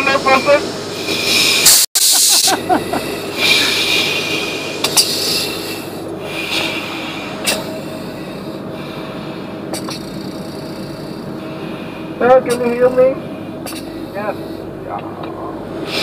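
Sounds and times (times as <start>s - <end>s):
oxygen mask regulator hissing: 0.0s - 14.9s, 15.7s - 16.0s
low hum: 0.0s - 16.0s.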